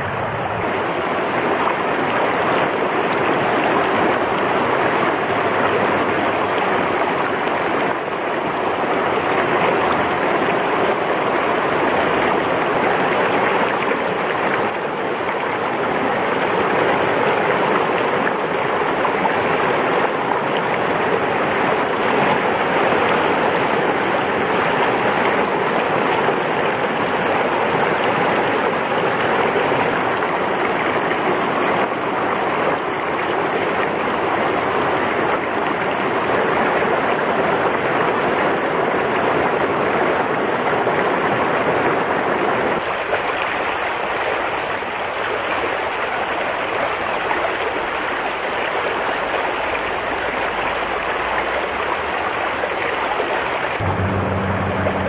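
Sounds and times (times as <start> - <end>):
creek rushing over rocks: 0.0 - 55.0.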